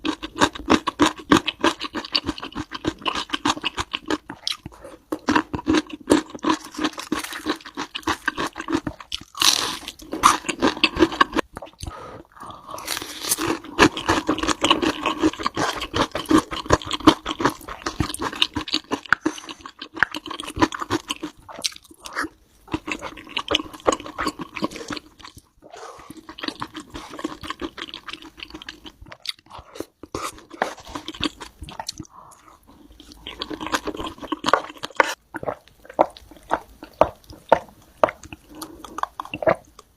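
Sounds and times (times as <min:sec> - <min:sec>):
crunchy chewing: 0:00.0 - 0:39.8.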